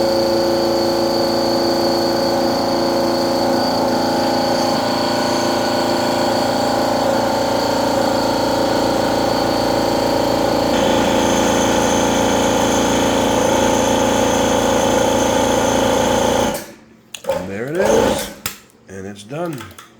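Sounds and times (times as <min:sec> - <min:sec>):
air compressor running: 0:00.0 - 0:18.4.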